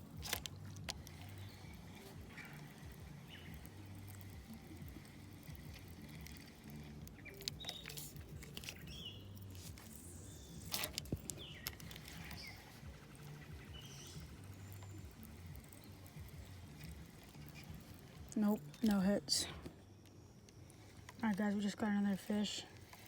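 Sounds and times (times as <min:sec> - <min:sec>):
fishing reel cranking: 0:00.0 - 0:18.8
fast even ticking: 0:00.0 - 0:19.2
handling clicks and knocks: 0:00.0 - 0:19.7.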